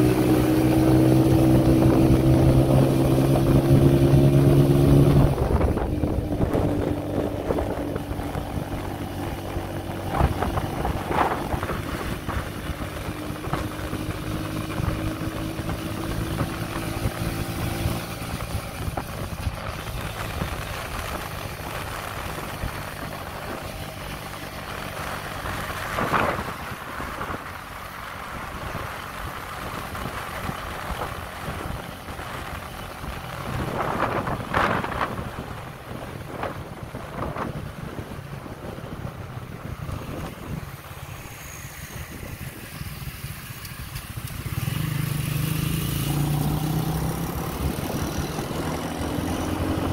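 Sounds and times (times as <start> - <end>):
motorbike engine running: 0.0 - 27.7, 28.3 - 49.9
road noise: 0.0 - 49.9
wind rushing over microphone: 0.0 - 49.9.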